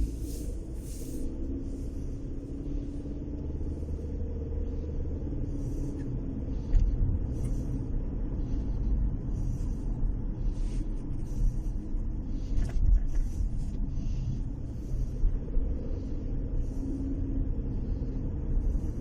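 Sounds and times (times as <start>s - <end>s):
car engine low rumble: 0.0s - 19.0s
faint steady tone: 0.0s - 19.0s.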